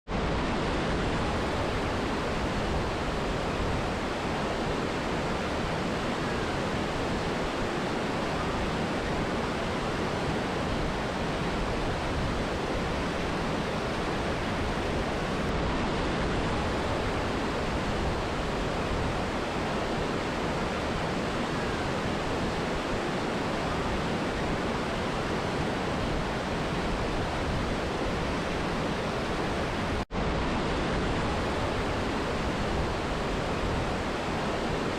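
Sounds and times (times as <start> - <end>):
river and waterfall rushing: 0.1 - 34.9.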